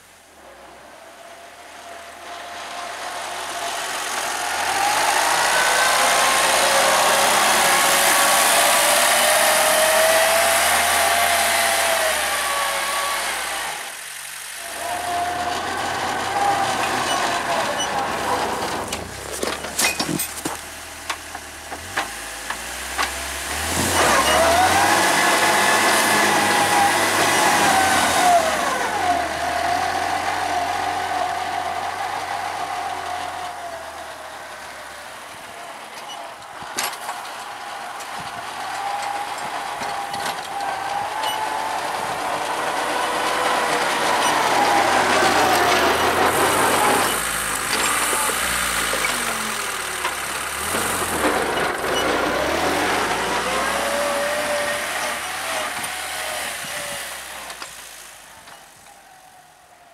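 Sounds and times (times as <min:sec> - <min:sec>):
tractor engine revving under load: 0:00.0 - 0:59.0.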